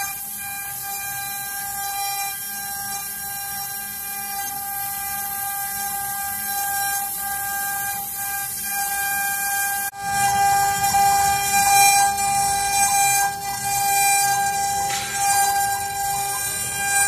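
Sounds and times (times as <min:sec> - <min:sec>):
router spindle high whine: 0:00.0 - 0:17.0.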